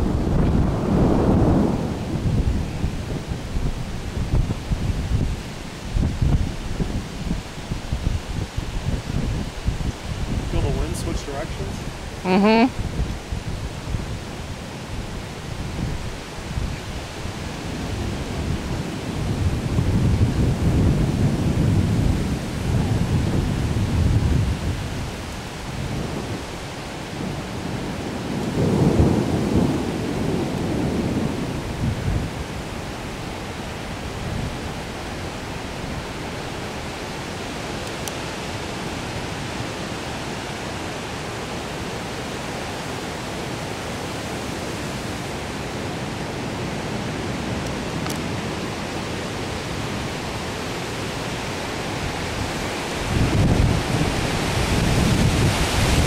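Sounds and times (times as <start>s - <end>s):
thunder rumbling: 0.0s - 12.2s, 12.8s - 36.0s, 46.1s - 56.0s
rain hiss: 0.0s - 56.0s.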